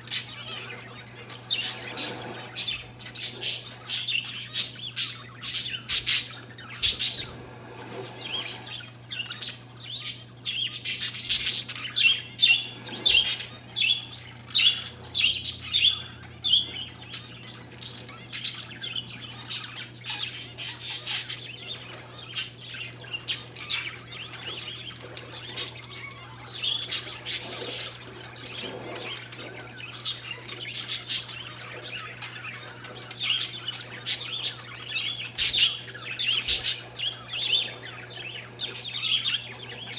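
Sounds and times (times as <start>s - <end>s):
birds chirping and squawking: 0.0s - 39.9s
steady low hum: 0.0s - 39.9s.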